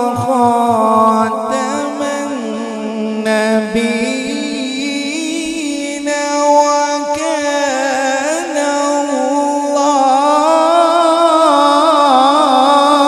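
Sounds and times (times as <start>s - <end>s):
man chanting into microphone: 0.0s - 13.0s.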